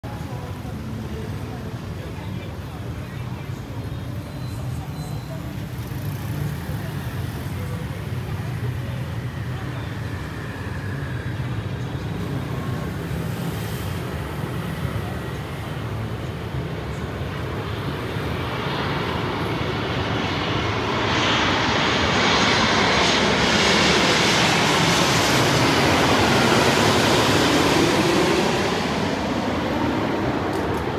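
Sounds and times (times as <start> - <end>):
airliner passing overhead: 0.1 - 30.9.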